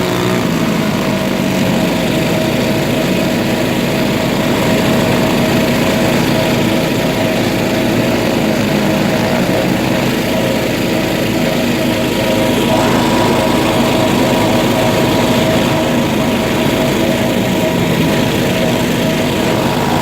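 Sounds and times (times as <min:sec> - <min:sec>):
vehicle engine buzzing drone: 0:00.0 - 0:20.0.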